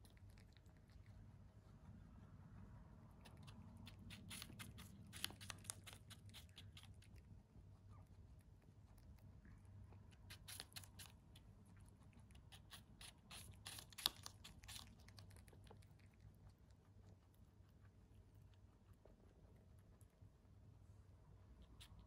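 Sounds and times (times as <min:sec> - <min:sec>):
rabbit chewing apple: 0:00.0 - 0:22.0.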